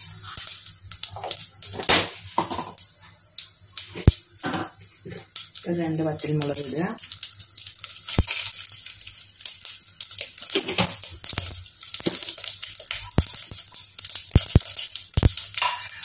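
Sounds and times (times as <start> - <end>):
seeds sizzling in hot oil: 0.0 - 16.0
sharp pops of spluttering seeds: 0.3 - 16.0.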